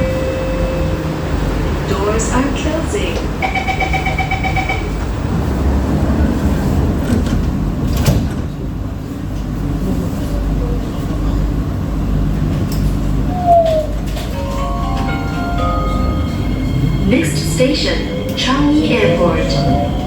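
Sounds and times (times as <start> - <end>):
metro train interior rumble: 0.0 - 20.0.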